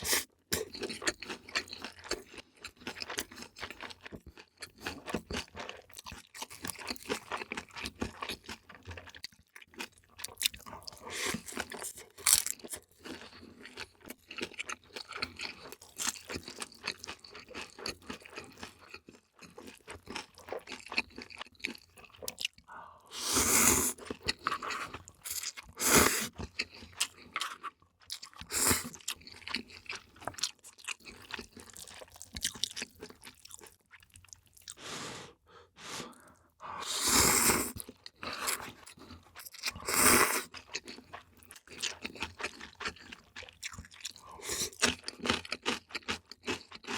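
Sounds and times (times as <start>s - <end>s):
person chewing and crunching: 0.0s - 35.0s, 35.8s - 46.9s.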